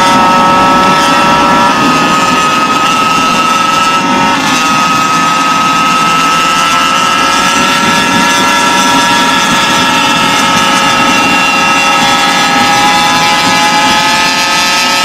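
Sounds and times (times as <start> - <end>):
two-stroke engine at high revs: 0.0 - 15.0.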